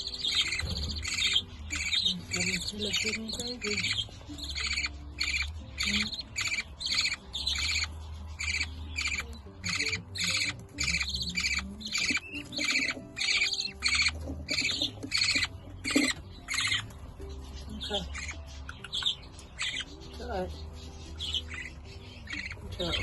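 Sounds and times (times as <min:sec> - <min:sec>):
chicks' buzzy begging calls: 0:00.0 - 0:17.0, 0:17.7 - 0:19.9.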